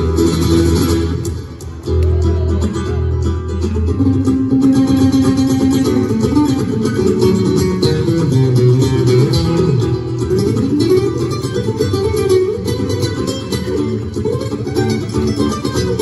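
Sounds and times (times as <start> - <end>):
acoustic guitar duet: 0.0 - 16.0.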